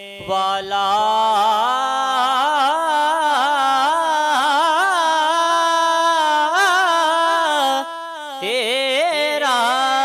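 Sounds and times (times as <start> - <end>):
man singing unaccompanied: 0.0 - 10.0.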